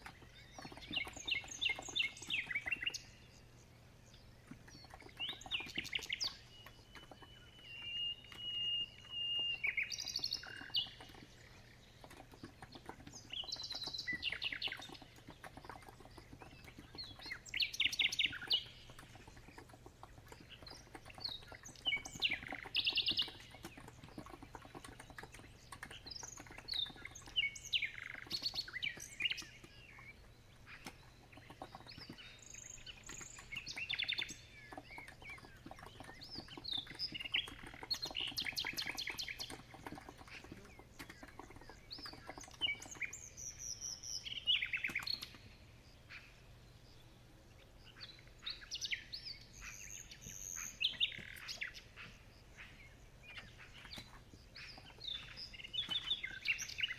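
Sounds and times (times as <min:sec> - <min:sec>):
soft typing on keyboard: 0:00.0 - 0:03.4, 0:04.1 - 0:45.6, 0:50.1 - 0:56.9
birds chirping and singing: 0:00.0 - 0:56.9.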